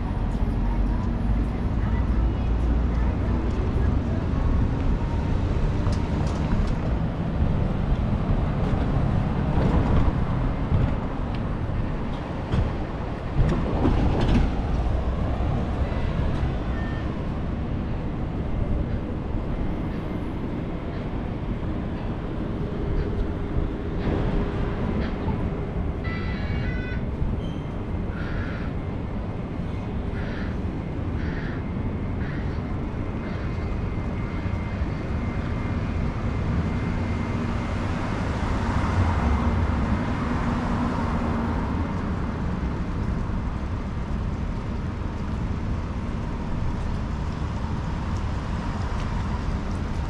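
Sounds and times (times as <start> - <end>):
street traffic noise: 0.0 - 50.0
wind rumbling on microphone: 0.0 - 50.0.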